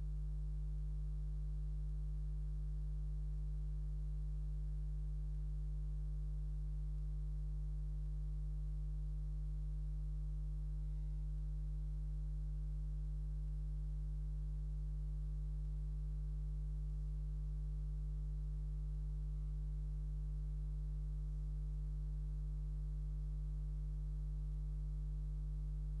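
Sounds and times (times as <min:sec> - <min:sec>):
faint buzz: 0:00.0 - 0:26.0
low electrical mains hum: 0:00.0 - 0:26.0.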